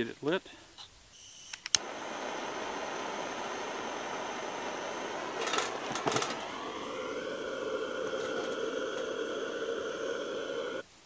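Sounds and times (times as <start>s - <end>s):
propane torch hissing: 1.8s - 10.9s.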